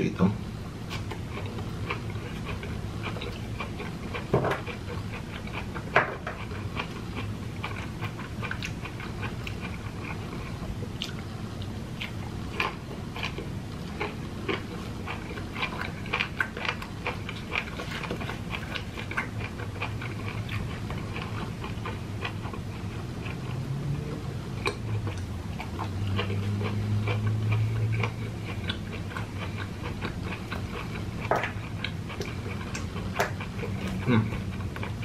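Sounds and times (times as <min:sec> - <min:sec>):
low steady hum: 0:00.0 - 0:35.0
person chewing fruit: 0:00.8 - 0:35.0.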